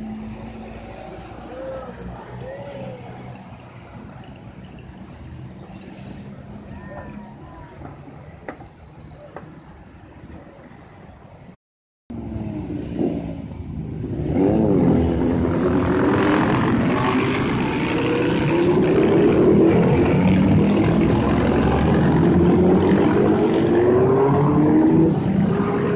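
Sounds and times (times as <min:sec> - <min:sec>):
motorcycles passing and accelerating: 0:00.0 - 0:08.1, 0:12.1 - 0:25.9.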